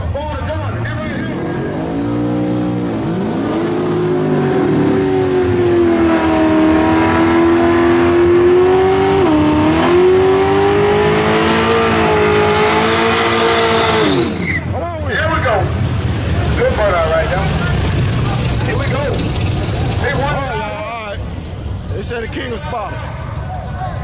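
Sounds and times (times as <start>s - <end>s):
racing car engine revving: 0.5s - 24.0s.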